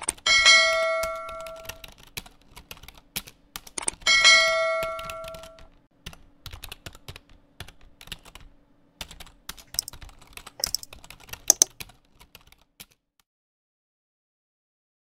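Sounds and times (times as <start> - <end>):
keyboard typing clicks: 0.0 - 4.1, 4.8 - 13.0.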